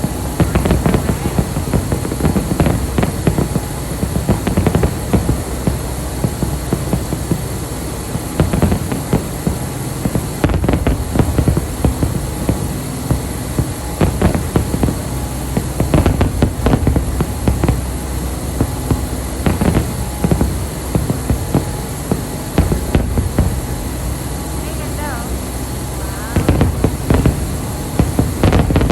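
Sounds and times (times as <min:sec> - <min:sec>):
background rumble: 0:00.0 - 0:28.9
fireworks cracks and bangs: 0:00.0 - 0:28.9.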